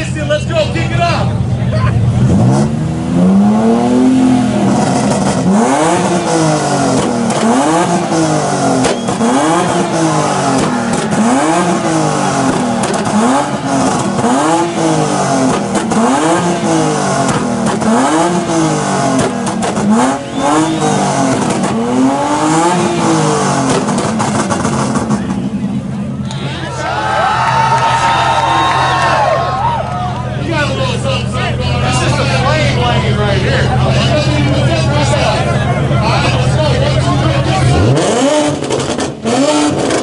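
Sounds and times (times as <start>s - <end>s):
car engine revving: 0.0s - 26.4s, 30.1s - 40.0s.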